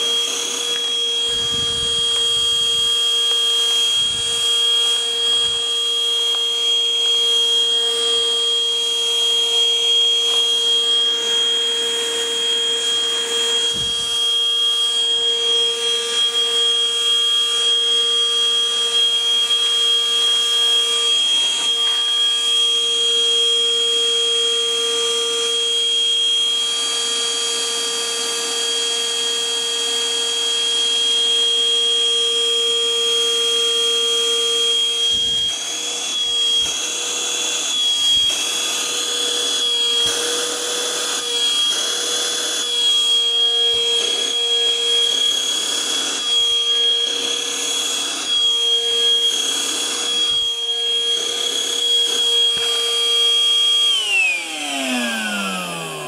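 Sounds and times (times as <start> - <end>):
handheld vacuum motor whining: 0.0 - 56.0.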